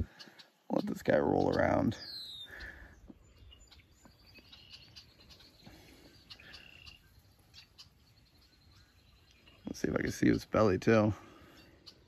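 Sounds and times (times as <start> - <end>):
high wildlife chirps and trills: 0.0 - 12.0.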